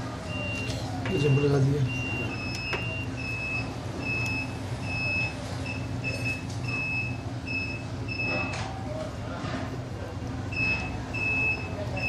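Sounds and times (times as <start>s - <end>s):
multimeter buzzer beeps: 0.3s - 8.6s, 10.5s - 12.0s.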